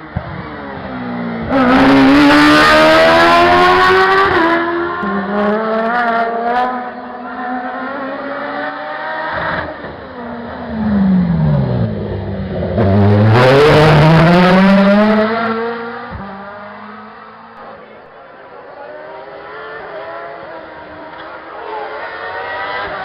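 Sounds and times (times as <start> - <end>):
race car engine accelerating: 0.1 - 18.0, 18.8 - 23.0.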